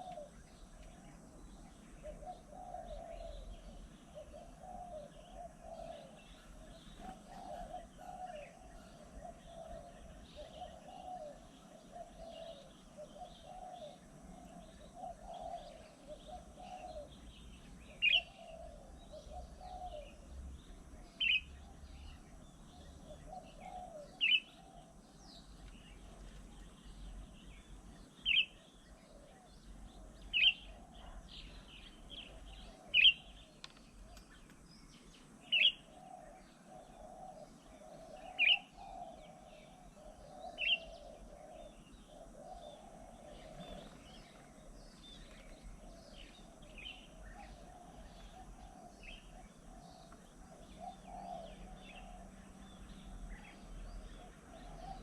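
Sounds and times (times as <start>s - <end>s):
faint bird chirping: 0.0s - 55.0s.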